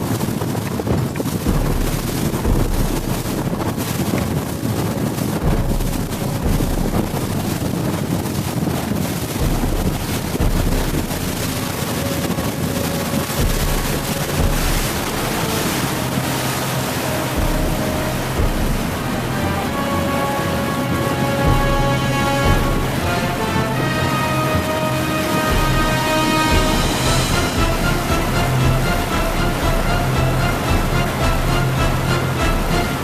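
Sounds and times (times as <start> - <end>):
water rushing past boat: 0.0 - 33.0
wind buffeting microphone: 0.0 - 33.0
music with held notes: 1.5 - 4.0, 5.1 - 7.8, 9.4 - 33.0.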